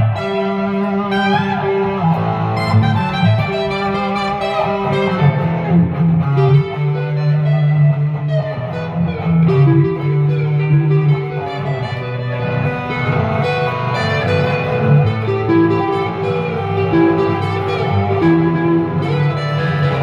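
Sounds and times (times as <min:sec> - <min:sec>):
electric guitars playing: 0:00.0 - 0:20.0.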